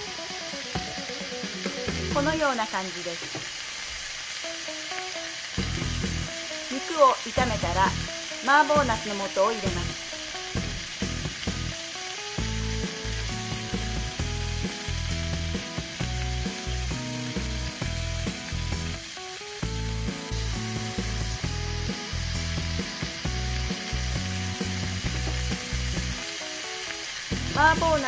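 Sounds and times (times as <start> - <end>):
background music: 0.0 - 3.1, 4.4 - 28.0
meat sizzling in a frying pan: 0.0 - 28.0.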